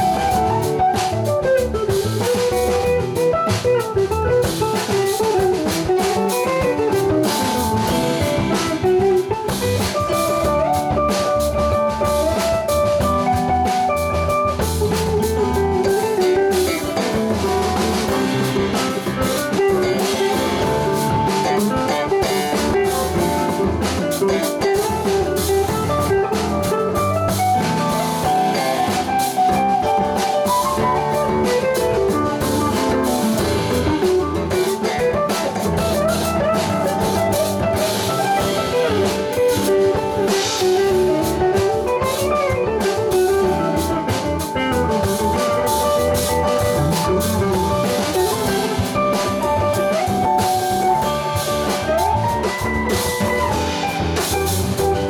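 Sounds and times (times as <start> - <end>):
electric guitar melody: 0.0 - 55.0
live rock band playing: 0.0 - 55.0.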